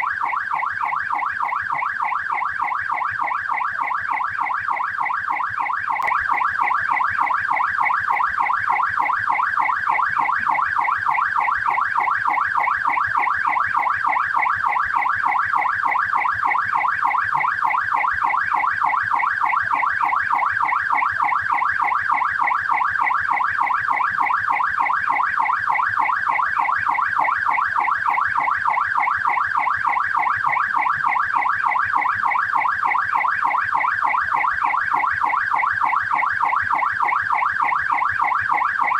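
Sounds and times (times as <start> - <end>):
police siren yelping: 0.0 - 22.5, 23.6 - 38.9.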